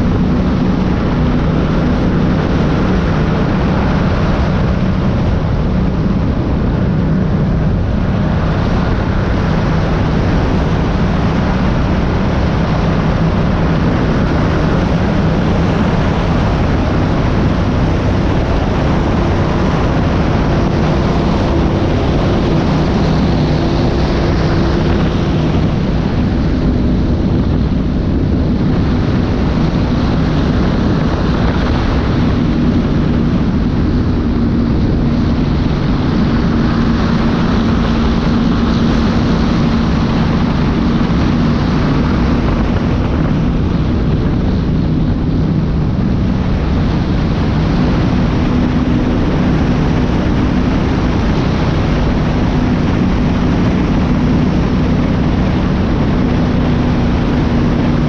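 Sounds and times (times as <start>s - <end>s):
powerboat engines droning: 0.0s - 58.0s
rush of wind and water: 0.0s - 58.0s.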